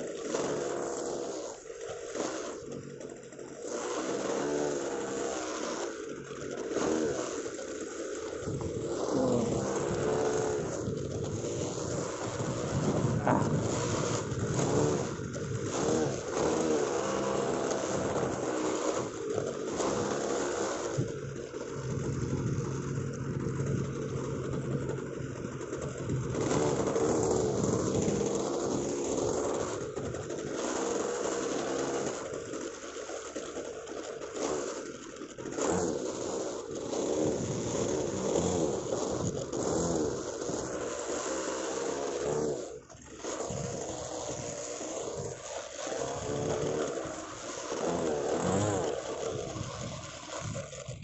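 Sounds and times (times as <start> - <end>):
model airplane engine running: 0.0 - 51.0.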